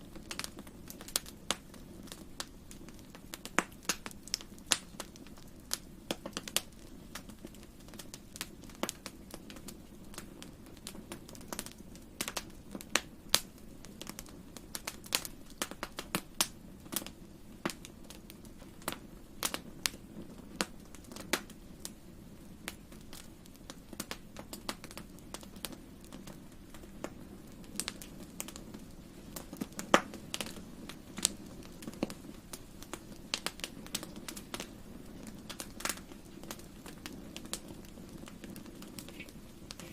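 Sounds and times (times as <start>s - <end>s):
fire crackling and popping: 0.0s - 39.9s
low background noise: 0.0s - 39.9s.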